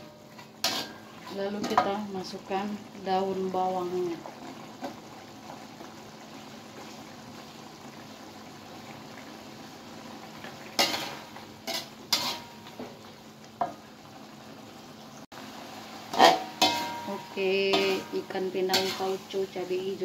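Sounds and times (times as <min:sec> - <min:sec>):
stew simmering with low sizzle: 0:00.0 - 0:20.0.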